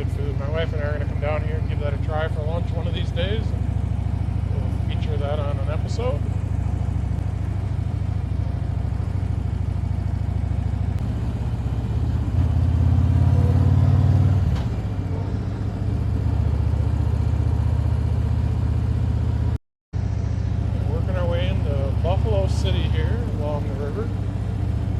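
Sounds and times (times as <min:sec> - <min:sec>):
motorcycle engine cruising: 0:00.0 - 0:24.9.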